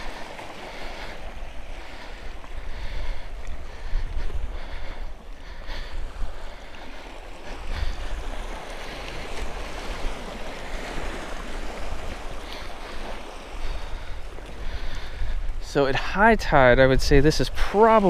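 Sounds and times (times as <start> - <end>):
small waves on rocky shore: 0.0 - 18.0
wind rumbling on microphone: 0.0 - 18.0.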